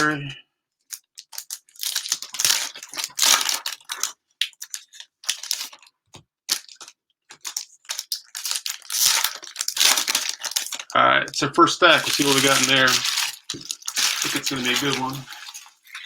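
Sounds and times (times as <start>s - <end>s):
plastic wrappers crinkling: 0.9s - 11.0s, 11.7s - 16.0s.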